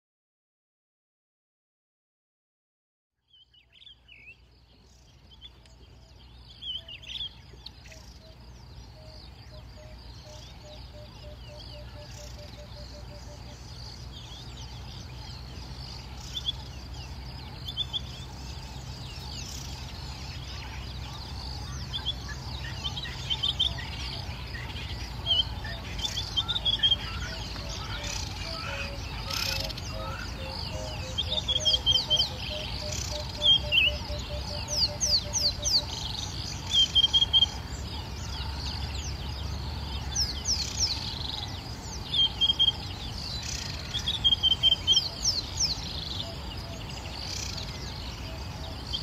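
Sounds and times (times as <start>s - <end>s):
birds chirping: 3.2s - 49.0s
steady low hum: 3.8s - 49.0s.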